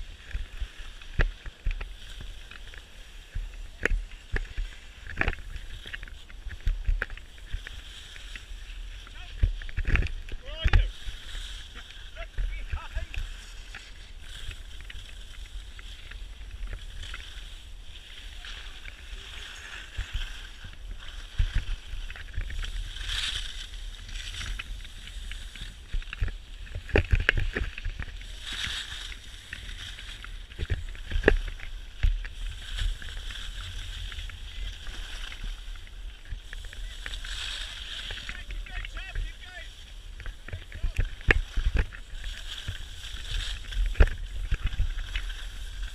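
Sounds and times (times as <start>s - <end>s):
skis scraping over snow: 0.0s - 45.9s.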